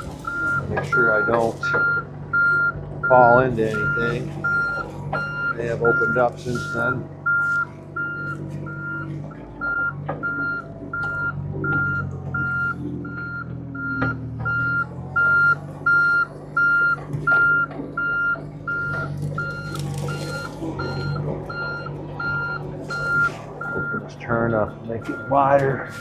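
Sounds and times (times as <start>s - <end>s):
diesel engine running: 0.0s - 26.0s
travel alarm beeping: 0.0s - 26.0s.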